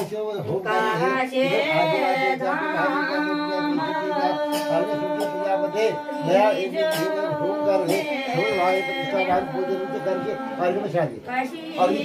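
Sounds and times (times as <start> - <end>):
voices singing a cappella: 0.0 - 12.0.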